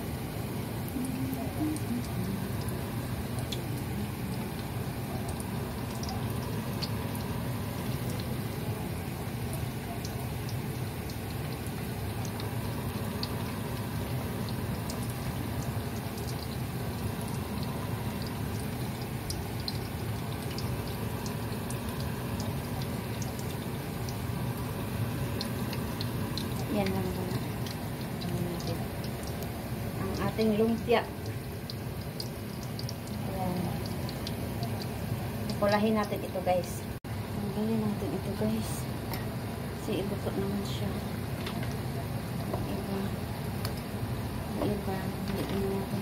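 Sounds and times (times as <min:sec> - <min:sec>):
deep-frying oil sizzling: 0:00.0 - 0:46.0
oil crackles and pops: 0:00.8 - 0:36.4, 0:40.6 - 0:46.0.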